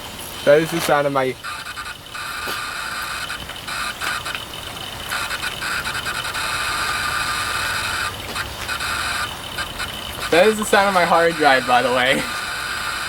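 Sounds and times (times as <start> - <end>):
hard drive spinning whine: 0.0 - 13.0.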